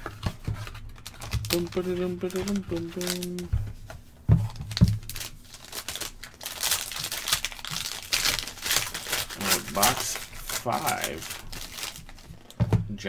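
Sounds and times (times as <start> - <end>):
foil wrapper crinkling and tearing: 0.0 - 3.5, 4.5 - 12.6.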